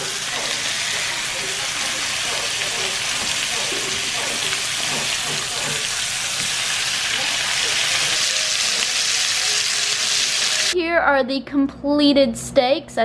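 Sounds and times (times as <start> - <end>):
steaks sizzling in a frying pan: 0.0 - 10.8.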